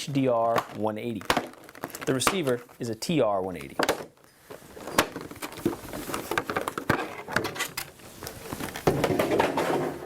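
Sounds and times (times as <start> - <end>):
packaging rustling: 0.2 - 2.9, 3.6 - 9.2.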